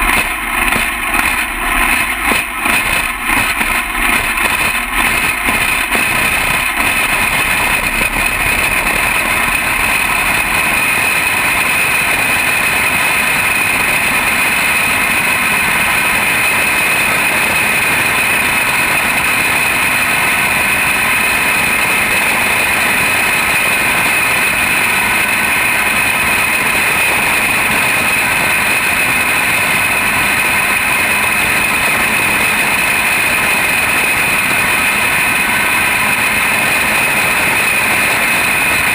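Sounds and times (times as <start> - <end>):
high-pitched kart engine: 0.0 - 38.9.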